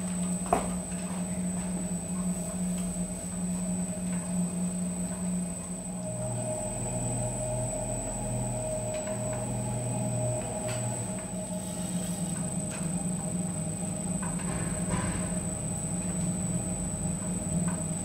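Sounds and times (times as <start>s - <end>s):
pottery wheel motor humming: 0.0s - 18.0s.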